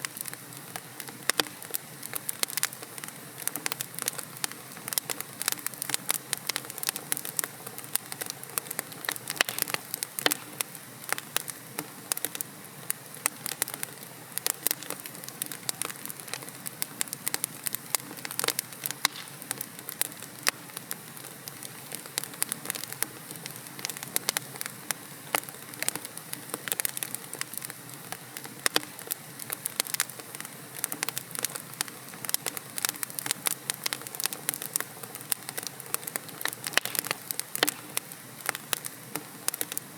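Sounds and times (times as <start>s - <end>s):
logs crackling and popping: 0.0s - 39.9s
soft hiss of flame: 0.0s - 39.9s.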